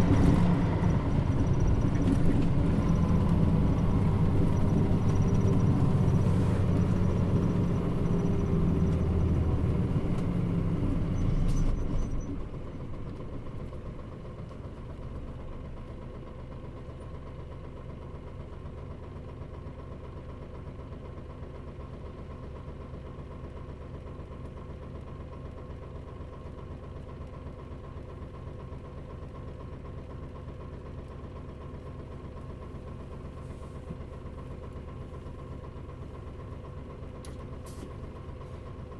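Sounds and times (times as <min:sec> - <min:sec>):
bus engine slowing to idle: 0:00.0 - 0:38.9.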